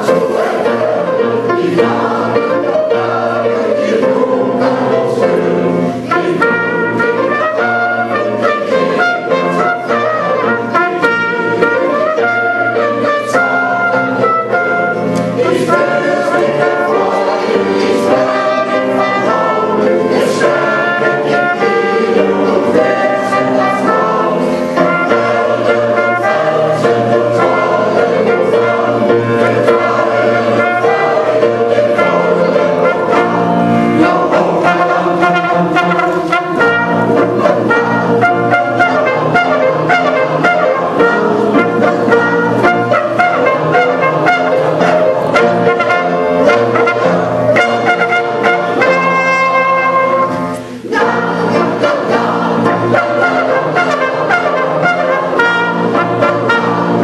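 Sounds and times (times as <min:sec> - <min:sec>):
choir singing with brass: 0:00.0 - 0:57.0
trumpet: 0:06.0 - 0:57.0.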